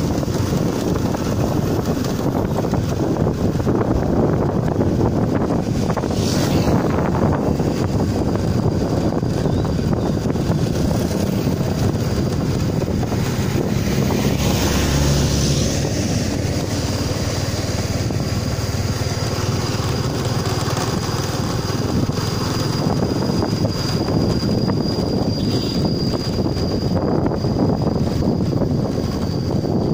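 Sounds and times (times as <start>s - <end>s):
moving vehicle rumble: 0.0s - 29.9s
wind buffeting microphone: 0.0s - 29.9s
thin high whine: 0.9s - 20.1s, 21.8s - 29.9s.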